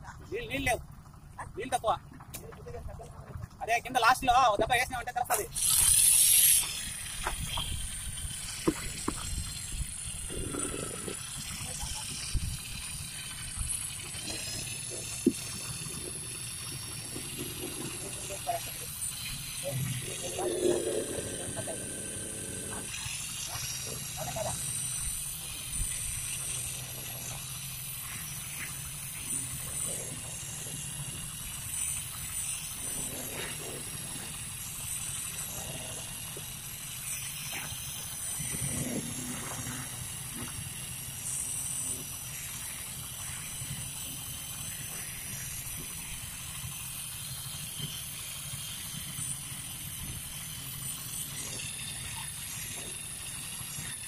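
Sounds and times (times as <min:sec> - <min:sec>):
concrete vibrator motor whine: 0:00.0 - 0:54.0.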